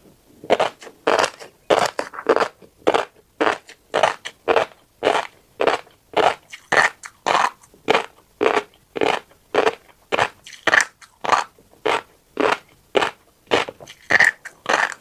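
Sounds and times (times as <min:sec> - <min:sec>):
chewing crunchy seeds: 0:00.4 - 0:15.0.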